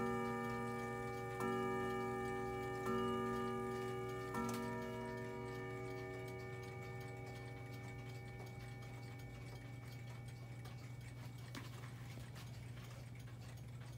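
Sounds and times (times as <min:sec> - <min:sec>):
clock chime rods ringing: 0:00.0 - 0:11.8
clock ticking: 0:00.0 - 0:13.9.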